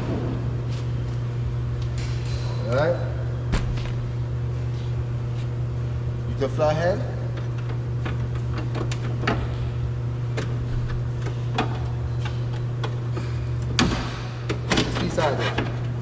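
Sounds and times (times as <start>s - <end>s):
low hum: 0.0s - 14.7s.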